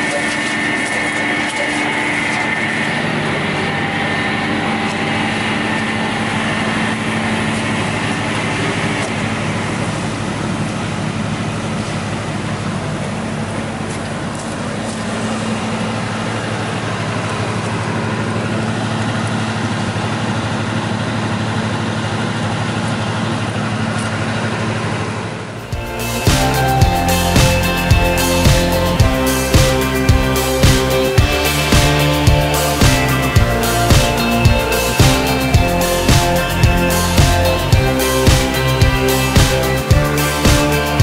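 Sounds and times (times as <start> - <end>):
high-pitched whine: 0.0 - 20.7, 23.7 - 41.0
wood shredder humming: 0.0 - 21.5, 22.1 - 41.0.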